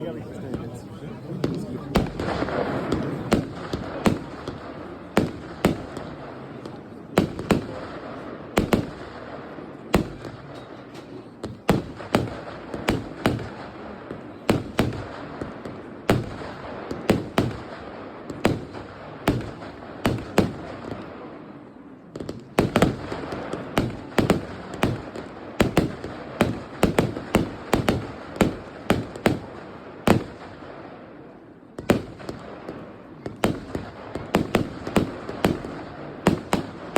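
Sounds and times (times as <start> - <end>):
firework sharp bangs: 1.4 - 21.5, 22.1 - 36.9.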